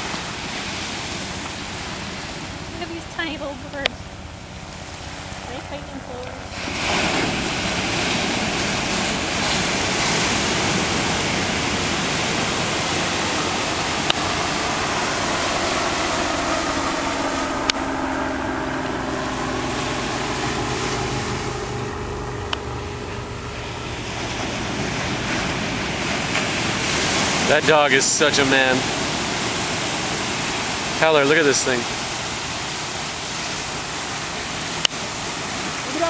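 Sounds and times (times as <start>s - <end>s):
ocean waves breaking: 0.0s - 36.0s.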